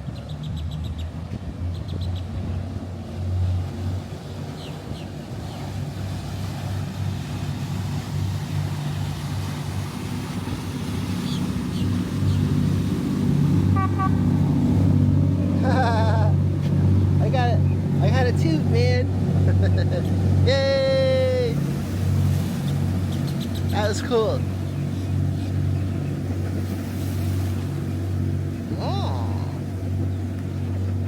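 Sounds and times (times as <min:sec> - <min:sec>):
motorboat engine droning: 0:00.0 - 0:31.0.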